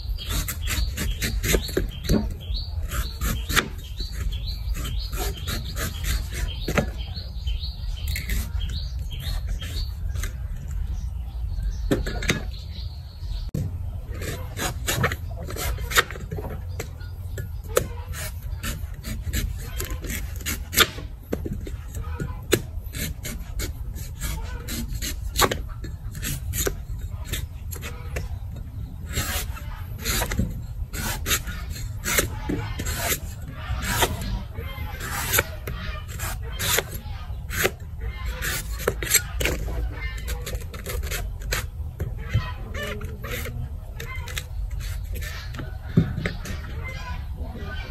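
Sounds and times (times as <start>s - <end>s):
cleaver scraping coconut husk: 0.0s - 12.8s, 13.6s - 47.9s.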